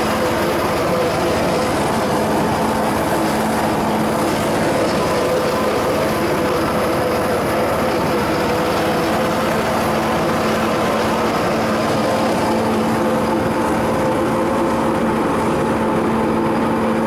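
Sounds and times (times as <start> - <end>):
miniature train engine pulsing: 0.0 - 17.0.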